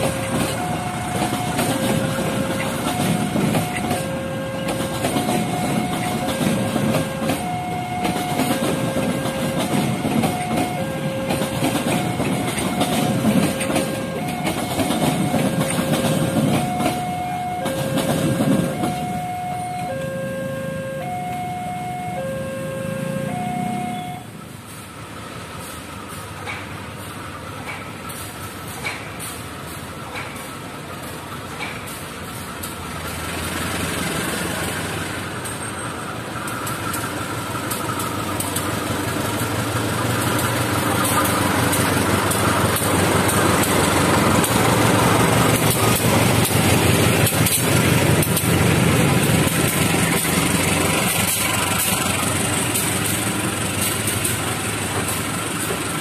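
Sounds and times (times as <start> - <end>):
locomotive engine running: 0.0 - 56.0
train wheels rumbling on rails: 0.0 - 56.0.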